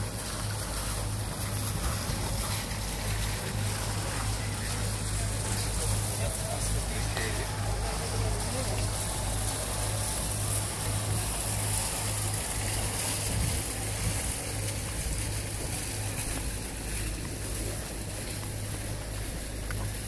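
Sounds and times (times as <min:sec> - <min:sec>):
constant hiss: 0:00.0 - 0:20.0
steady low hum: 0:00.0 - 0:20.0.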